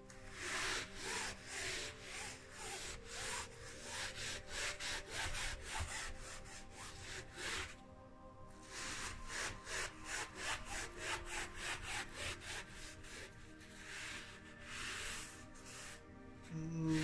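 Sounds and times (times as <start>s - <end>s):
towel rubbing on canvas: 0.2s - 7.8s, 8.6s - 17.0s.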